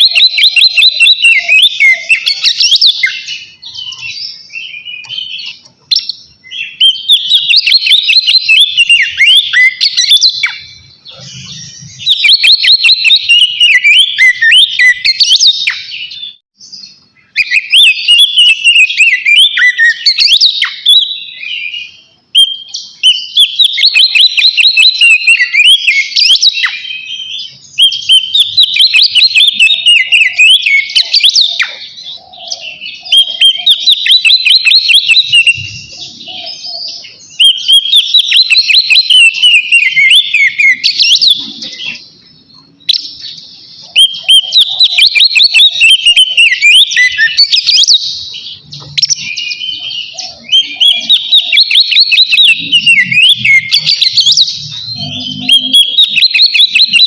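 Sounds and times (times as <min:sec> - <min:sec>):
songbird whistles and trills: 0:00.0 - 0:57.0.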